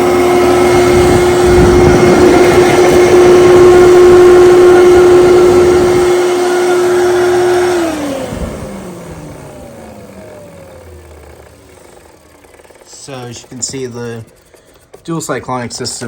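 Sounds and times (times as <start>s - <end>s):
vacuum cleaner whine: 0.0s - 16.0s.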